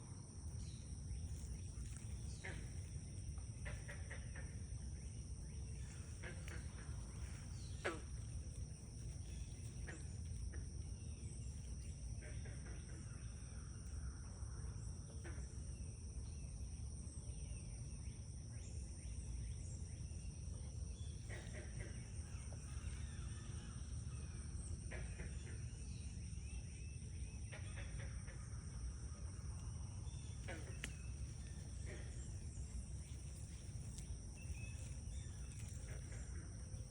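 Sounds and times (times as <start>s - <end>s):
frog and insect calls: 0.0s - 36.9s
low outdoor rumble: 0.0s - 36.9s.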